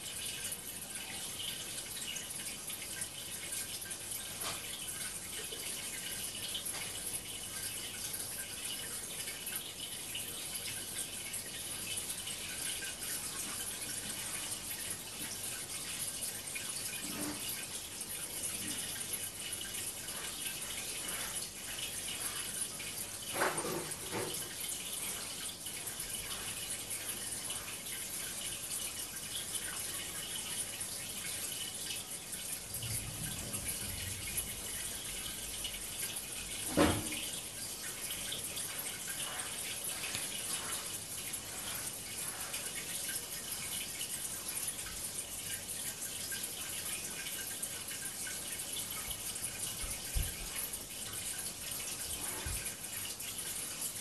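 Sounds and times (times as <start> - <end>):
aquarium water through tv speakers: 0.0 - 54.0.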